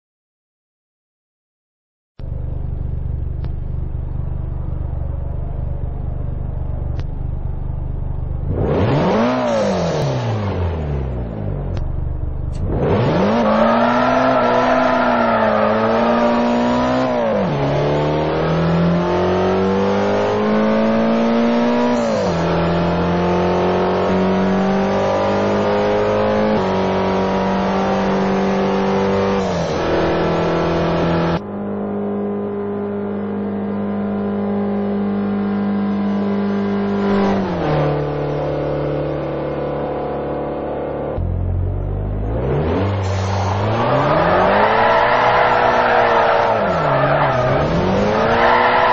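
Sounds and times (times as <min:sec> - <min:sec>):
car engine revving and accelerating: 0:04.2 - 0:48.9.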